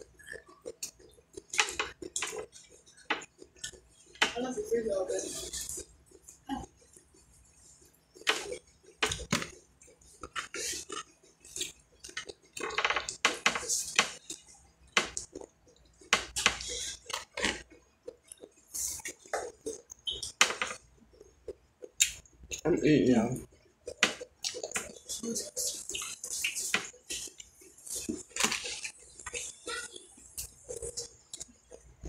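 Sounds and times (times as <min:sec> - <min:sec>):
crunching and chewing food: 0:00.0 - 0:32.0.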